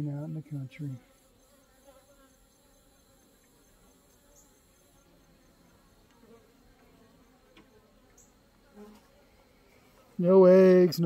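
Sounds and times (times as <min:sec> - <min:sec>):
bees humming: 0:00.0 - 0:10.8.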